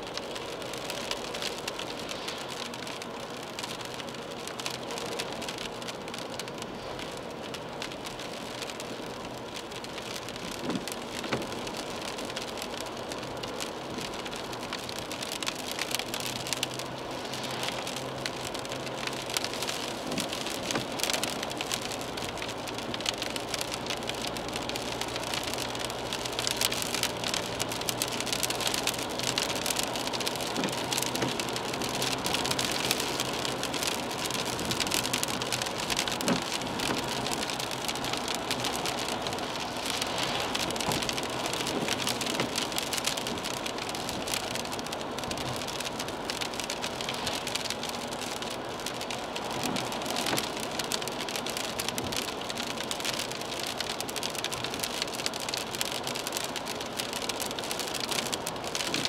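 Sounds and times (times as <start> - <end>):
rain hitting car windscreen and roof: 0.0 - 59.0
road noise hum: 0.0 - 59.0.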